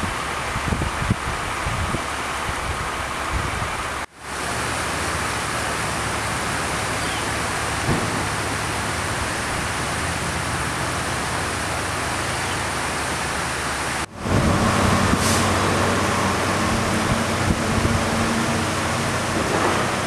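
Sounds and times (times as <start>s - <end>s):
steady rushing noise: 0.0s - 20.0s
vehicle engine humming: 0.0s - 20.0s.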